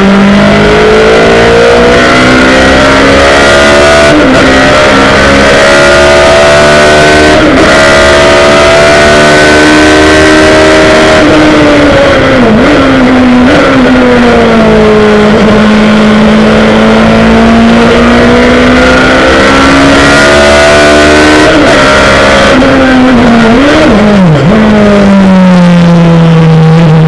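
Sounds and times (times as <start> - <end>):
racing car engine at speed: 0.0 - 27.0
wind and road noise: 0.0 - 27.0.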